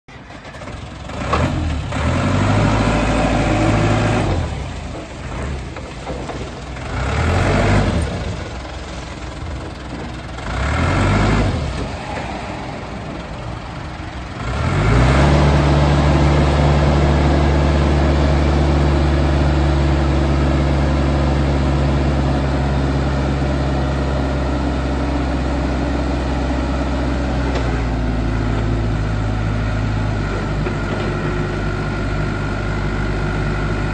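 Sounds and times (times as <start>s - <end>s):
forklift diesel engine revving: 0.1s - 33.9s.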